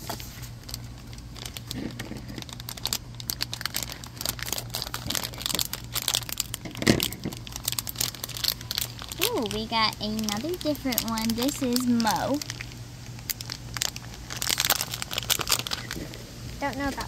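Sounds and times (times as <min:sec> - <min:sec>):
foil packet crinkling: 0:00.0 - 0:17.0.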